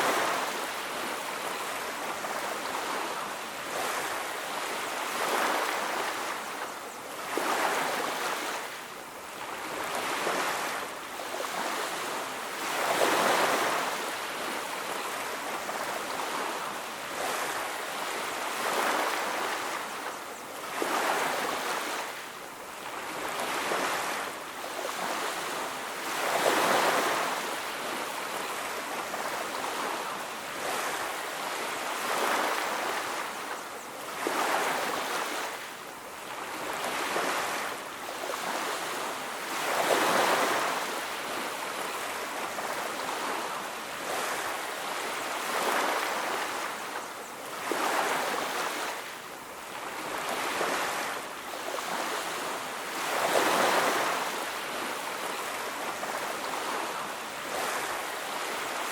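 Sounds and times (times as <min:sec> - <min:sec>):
ocean waves breaking on a beach: 0:00.0 - 0:58.9.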